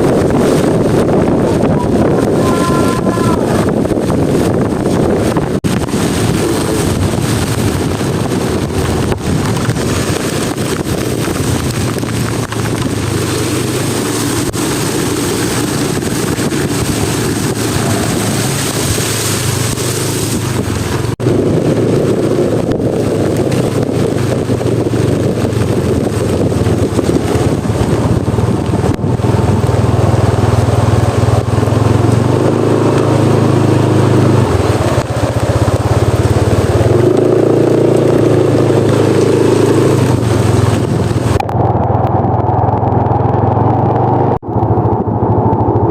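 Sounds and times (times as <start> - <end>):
heavy rain: 0.0 - 45.9
vehicle engine running: 0.0 - 45.9
wind noise: 0.0 - 45.9.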